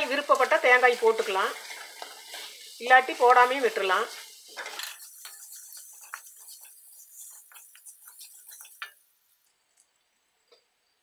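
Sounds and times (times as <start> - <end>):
food frying in oil: 0.0 - 11.0
wooden spatula stirring: 0.2 - 9.0.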